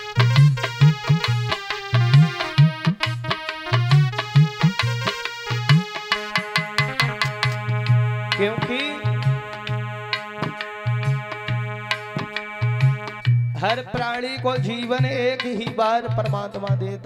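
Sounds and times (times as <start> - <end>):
held melody with chords: 0.0 - 17.0.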